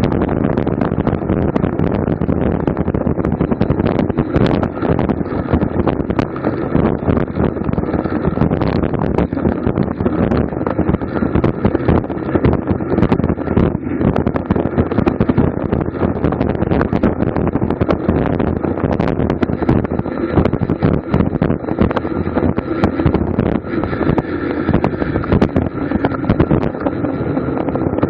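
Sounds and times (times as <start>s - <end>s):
constant crackling: 0.0s - 28.0s
wind buffeting microphone: 0.0s - 28.0s.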